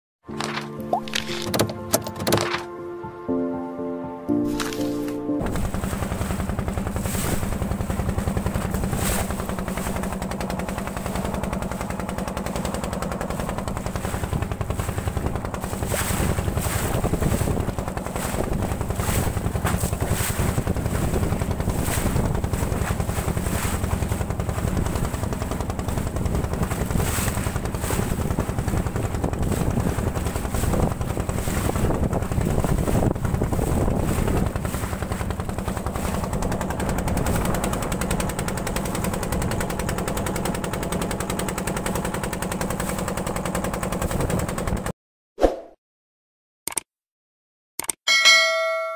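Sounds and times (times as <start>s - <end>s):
boat engine running: 0.3s - 44.9s
water splashing against hull: 4.4s - 44.9s.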